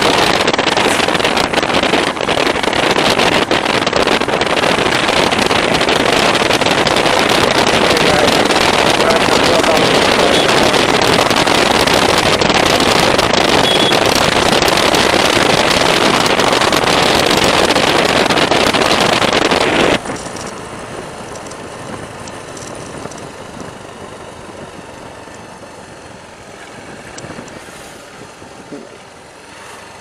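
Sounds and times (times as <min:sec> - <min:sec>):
road and vehicle noise: 0:00.0 - 0:30.0
wind rushing over microphone: 0:00.0 - 0:30.0.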